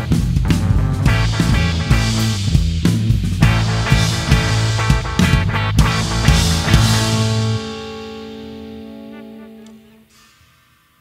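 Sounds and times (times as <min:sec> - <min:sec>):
steady drum beat: 0:00.0 - 0:09.5
rock band playing live: 0:00.0 - 0:10.0
electric bass: 0:00.0 - 0:10.1
electric guitars: 0:00.0 - 0:10.3.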